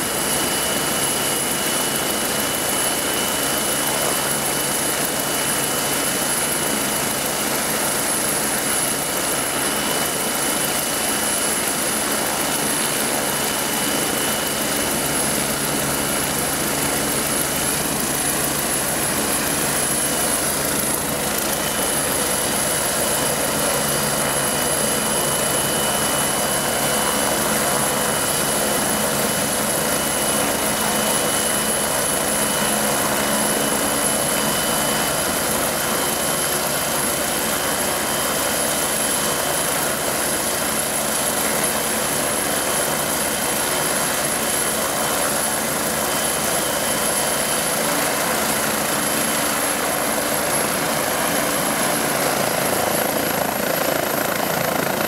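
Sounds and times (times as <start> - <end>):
helicopter turbine whine and rotors: 0.0 - 55.0.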